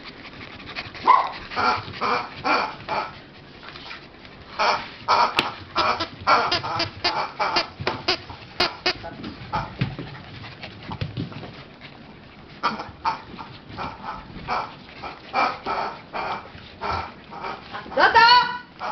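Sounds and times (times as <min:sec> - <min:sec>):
puppies yipping and growling: 0:00.0 - 0:18.9.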